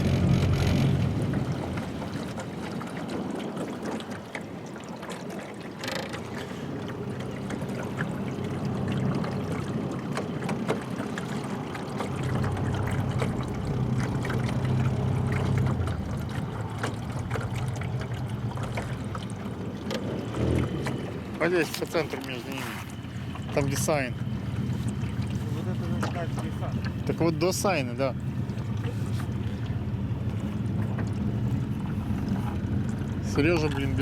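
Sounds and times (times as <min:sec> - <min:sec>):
boat motor hum: 0:00.0 - 0:34.0
water splashing: 0:00.0 - 0:34.0.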